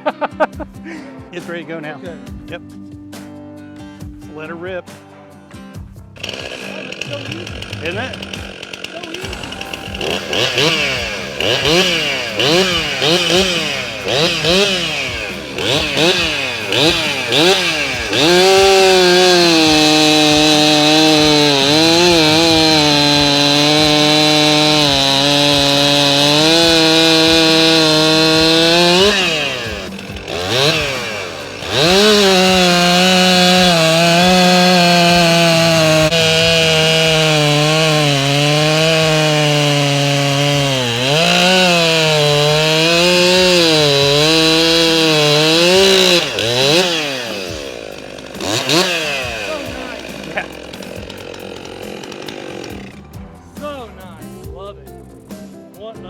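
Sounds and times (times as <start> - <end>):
chainsaw revving: 6.2 - 53.3.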